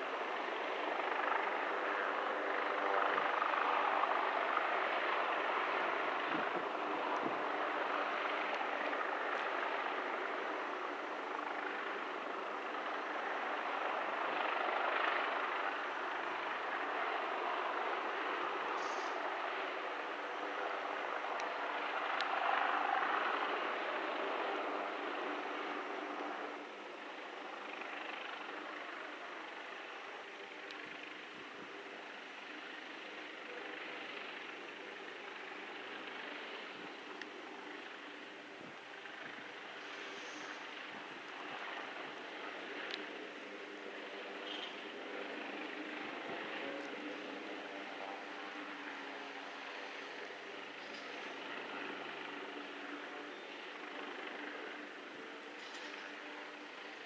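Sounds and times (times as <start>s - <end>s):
distant mechanical drone: 0.0s - 57.0s.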